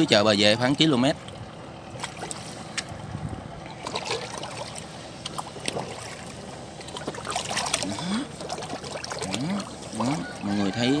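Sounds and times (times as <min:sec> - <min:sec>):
water lapping: 0:00.0 - 0:11.0
fish splashing at water surface: 0:01.1 - 0:11.0.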